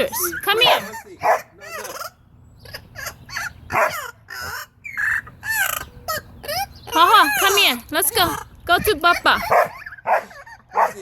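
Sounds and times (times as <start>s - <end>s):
bird squawking: 0.0s - 11.0s.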